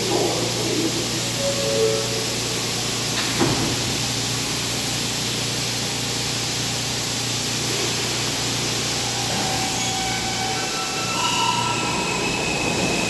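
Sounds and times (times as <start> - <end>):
subway train rushing: 0.0 - 13.0.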